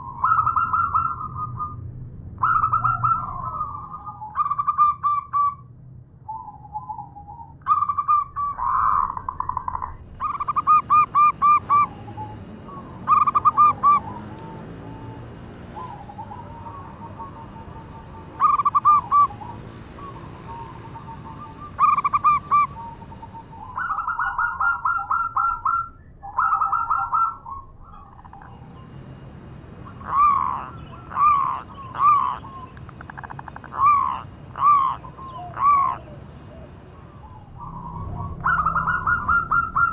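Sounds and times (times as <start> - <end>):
dove trilled cooing: 0.0 - 1.8, 2.4 - 5.6, 6.3 - 28.9, 29.9 - 39.9
dove rising and falling notes: 0.0 - 39.9.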